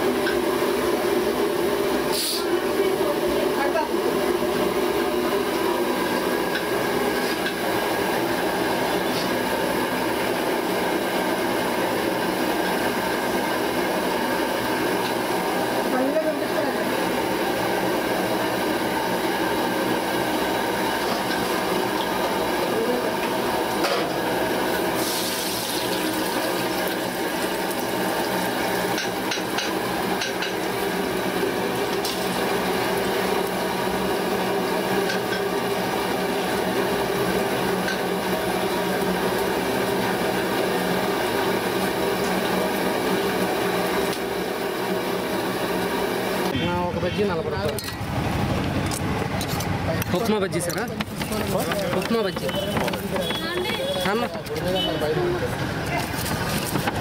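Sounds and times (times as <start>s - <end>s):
food deep-frying in hot oil: 0.0s - 46.6s.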